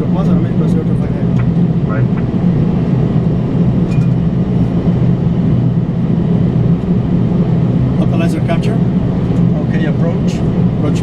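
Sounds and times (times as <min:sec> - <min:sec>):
aircraft engine drone: 0:00.0 - 0:11.0.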